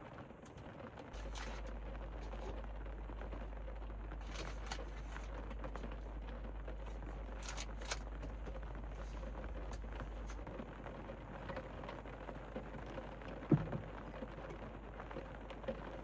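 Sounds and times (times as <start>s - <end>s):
rain on a van roof: 0.0s - 16.0s.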